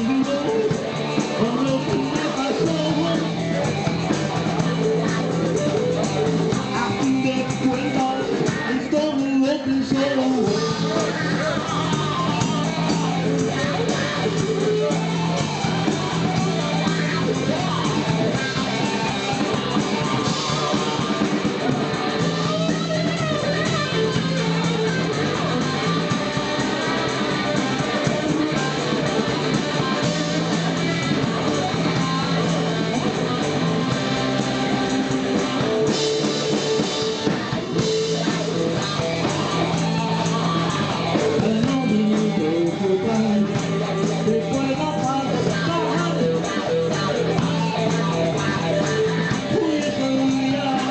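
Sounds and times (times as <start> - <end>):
blues band music: 0.0 - 50.9
guitar: 0.0 - 50.9
repeating bass line: 0.0 - 50.9.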